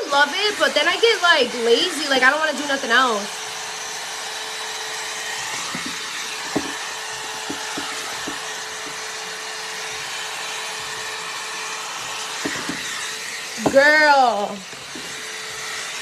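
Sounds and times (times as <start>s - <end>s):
blow-dry brush running: 0.0s - 16.0s.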